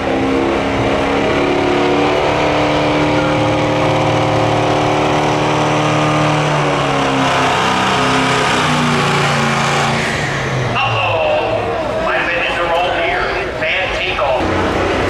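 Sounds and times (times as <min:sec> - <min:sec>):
diesel truck engine at full throttle: 0:00.0 - 0:15.0.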